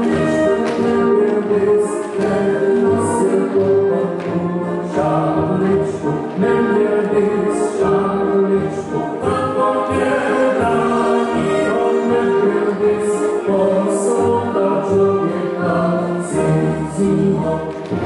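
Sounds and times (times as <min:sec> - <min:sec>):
group singing folk song: 0:00.0 - 0:18.0.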